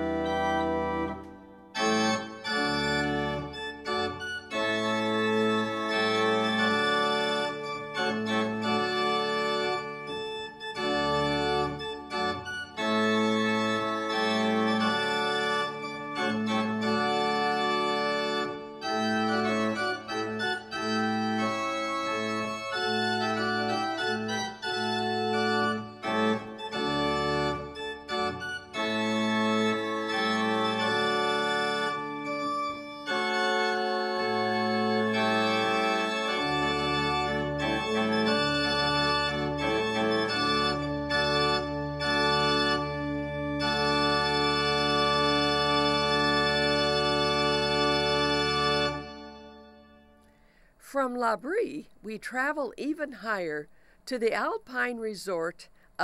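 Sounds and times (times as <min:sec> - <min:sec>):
pipe organ playing chords: 0:00.0 - 0:50.2.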